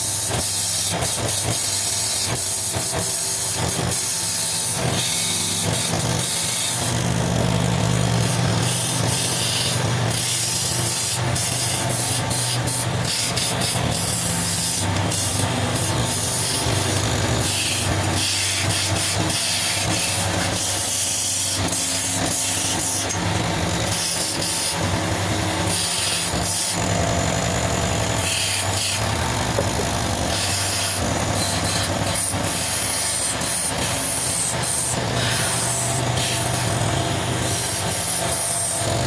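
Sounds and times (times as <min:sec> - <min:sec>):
wood lathe motor hum: 0:00.0 - 0:39.0
chisel scraping spinning wood: 0:04.2 - 0:39.0.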